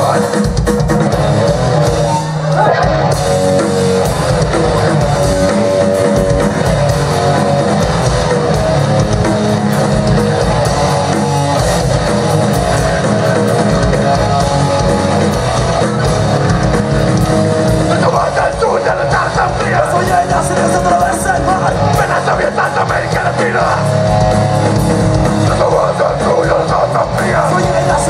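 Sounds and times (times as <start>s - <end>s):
bass guitar: 0.0s - 28.0s
distorted electric guitar: 0.0s - 28.0s.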